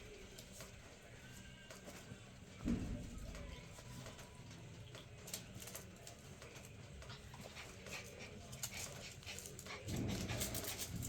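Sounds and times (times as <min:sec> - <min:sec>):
puppies scratching and clicking: 0:00.0 - 0:11.0.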